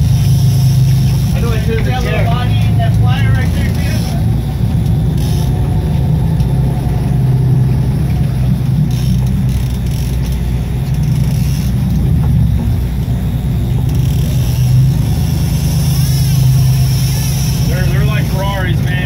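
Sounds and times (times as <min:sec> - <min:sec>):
boat engine rumbling: 0:00.0 - 0:19.0
sea noise: 0:00.0 - 0:19.0
wind: 0:00.0 - 0:19.0.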